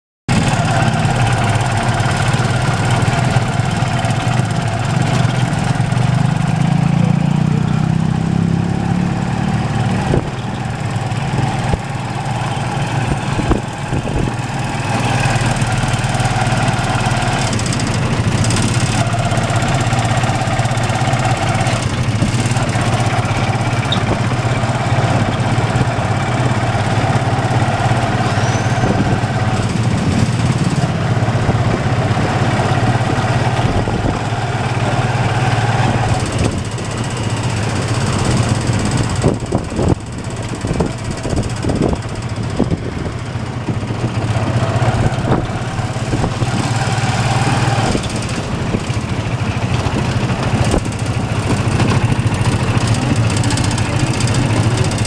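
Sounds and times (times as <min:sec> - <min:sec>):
motorcycle engine running: 0:00.3 - 0:55.0.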